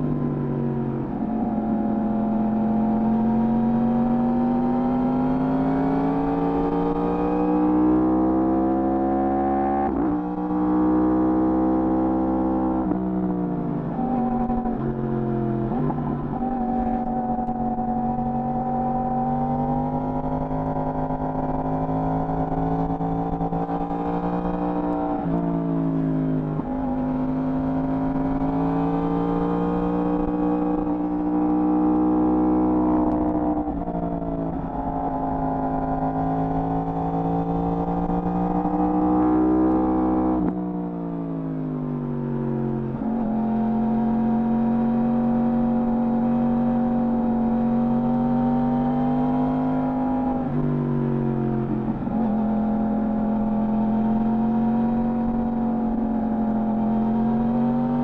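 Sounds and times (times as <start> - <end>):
motorcycle engine revving: 0.0 - 40.8, 42.2 - 58.0.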